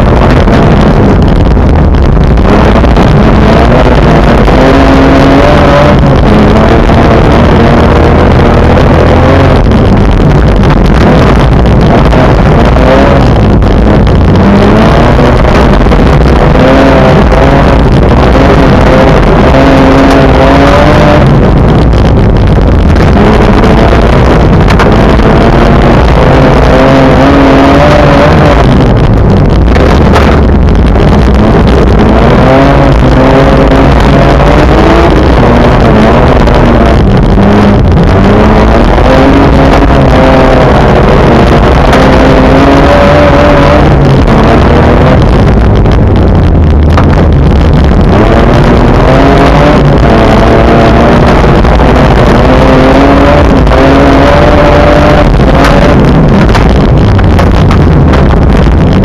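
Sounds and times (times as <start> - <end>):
car engine revving: 0.0 - 59.0
tyres rushing on snow: 0.0 - 59.0.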